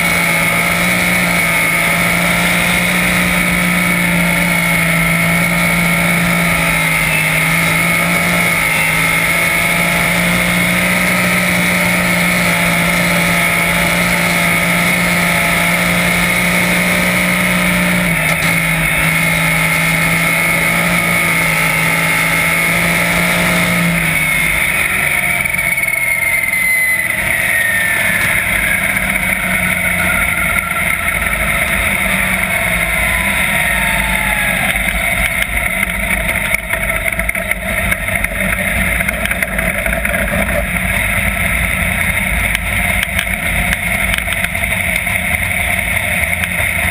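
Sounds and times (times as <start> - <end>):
race car engine running hard: 0.0 - 46.9.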